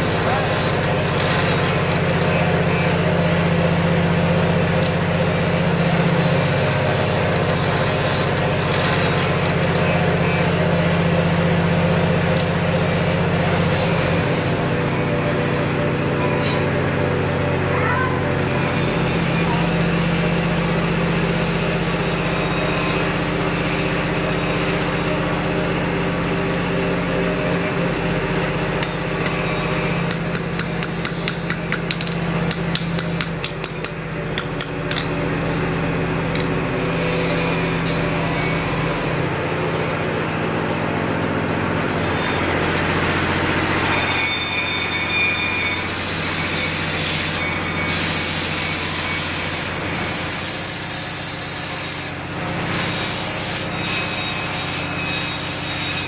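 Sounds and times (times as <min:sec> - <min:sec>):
abrasive wheel grinding: 0:00.0 - 0:56.0
workshop machine humming: 0:00.0 - 0:56.0.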